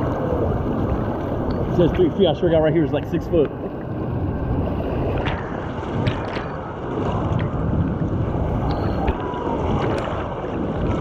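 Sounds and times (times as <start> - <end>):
rushing water: 0.0 - 11.0
water splashes: 0.0 - 11.0
wind buffeting microphone: 0.0 - 11.0.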